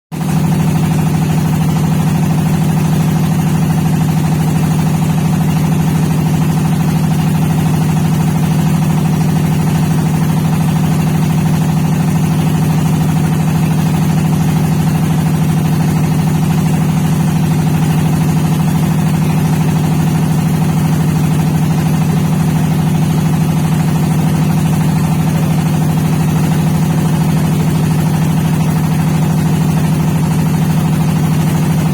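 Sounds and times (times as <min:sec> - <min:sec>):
engine droning steadily: 0:00.1 - 0:31.9.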